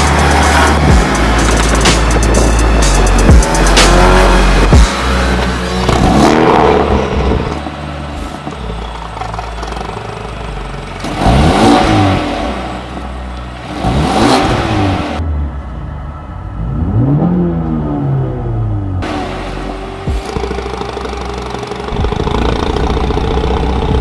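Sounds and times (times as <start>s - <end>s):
car engine idling: 0.0s - 24.0s
car engine revving: 0.0s - 24.0s.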